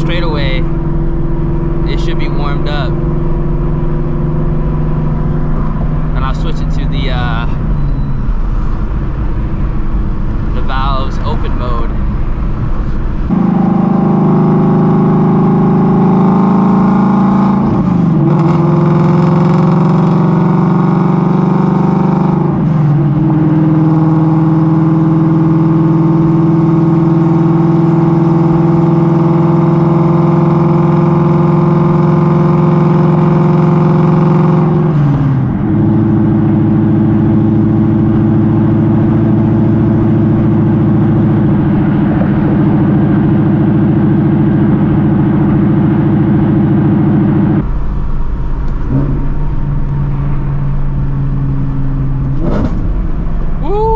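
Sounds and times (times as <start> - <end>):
car engine droning loudly: 0.0 - 53.9.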